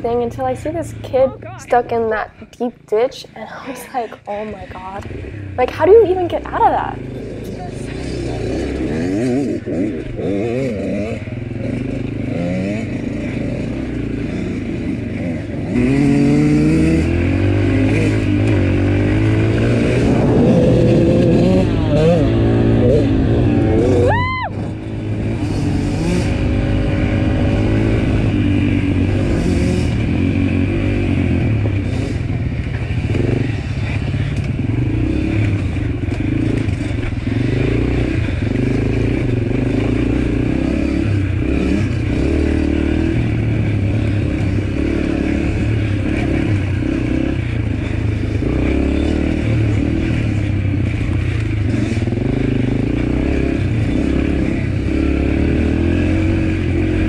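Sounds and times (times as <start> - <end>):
dirt bike engine revving: 4.0 - 57.0.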